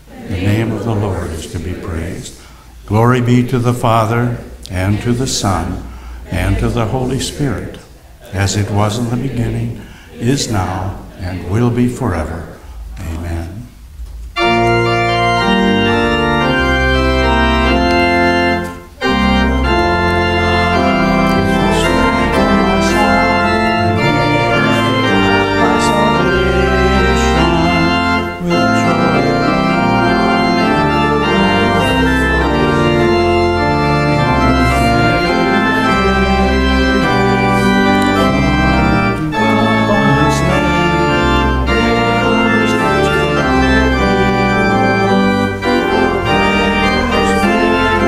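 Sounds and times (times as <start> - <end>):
church organ chords: 0.0 - 48.0.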